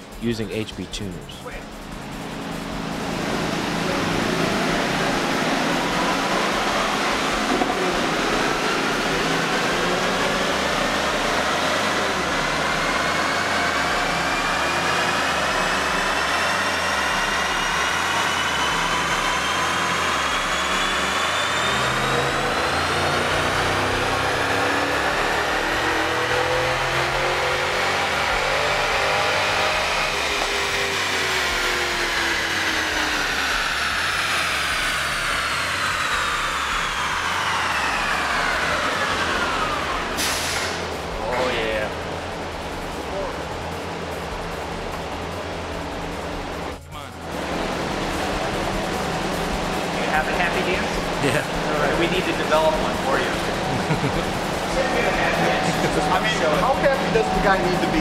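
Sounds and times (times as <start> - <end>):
car engine and dyno rollers revving: 0.0 - 58.0.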